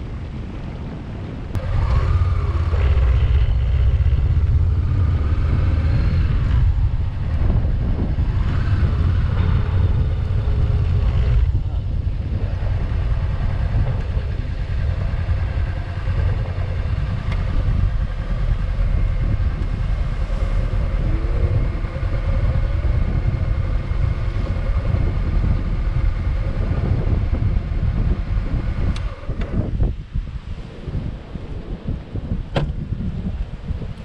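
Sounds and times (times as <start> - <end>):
motorcycle engine rumble: 0.0 - 34.0
rushing air: 1.3 - 34.0.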